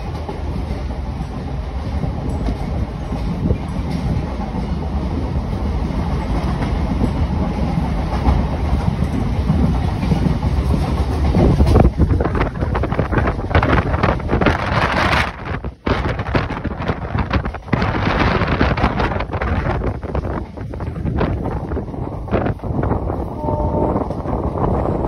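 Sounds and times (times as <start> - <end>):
train coach rumbling on rails: 0.0 - 25.0
wind buffeting microphone: 0.0 - 25.0.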